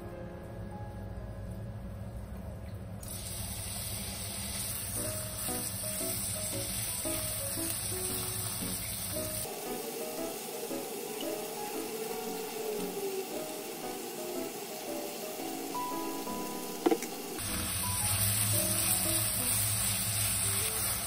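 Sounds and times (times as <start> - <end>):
light background music: 0.0 - 2.1, 5.0 - 20.4
meat sizzling in a frying pan: 3.0 - 16.4, 17.4 - 21.0.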